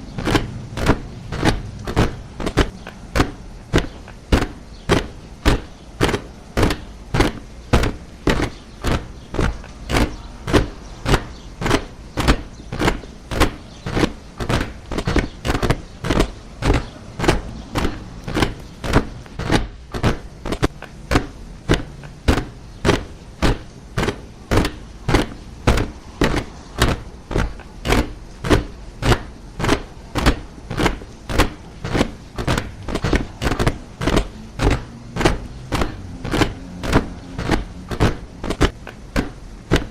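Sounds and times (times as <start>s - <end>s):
soldiers marching in step: 0.0s - 39.9s.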